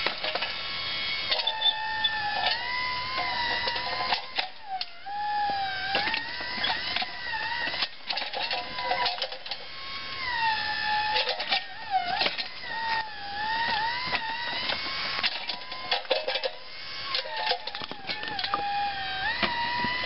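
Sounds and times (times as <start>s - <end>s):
electric motor and hydraulic pump whining: 0.0s - 20.0s
digging clicks and knocks: 1.3s - 20.0s.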